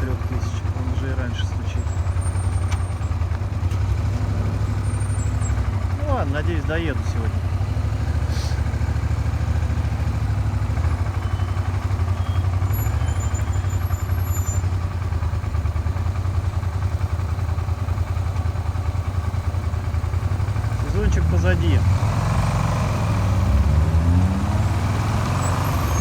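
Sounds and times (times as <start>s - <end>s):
engine knocking: 0.0s - 26.0s
motorcycle engine running: 0.0s - 26.0s.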